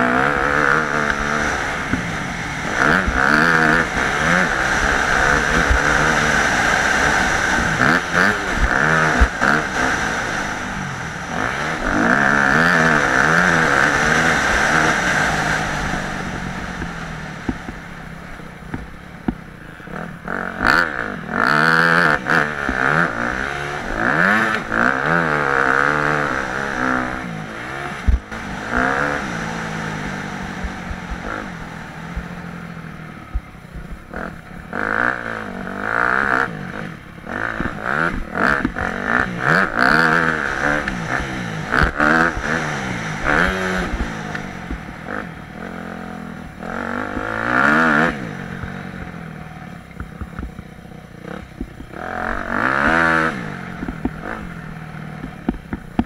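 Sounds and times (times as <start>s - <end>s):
motocross bike revving: 0.0s - 56.0s.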